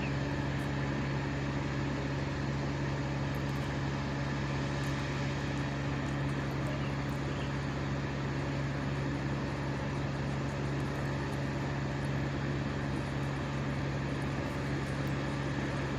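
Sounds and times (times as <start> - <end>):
engine running at high speed: 0.0 - 15.9.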